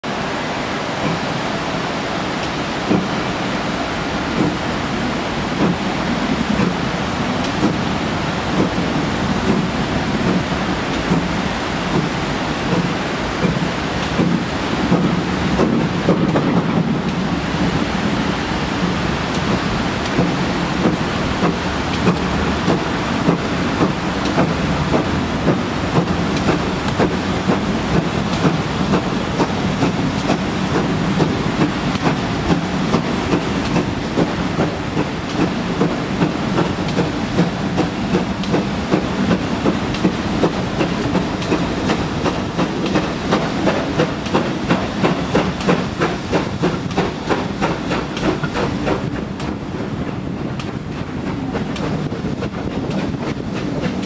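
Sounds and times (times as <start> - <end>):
train rolling rumble: 0.0 - 54.0
steam hiss: 0.1 - 54.0
steam locomotive exhaust beats: 0.1 - 54.0.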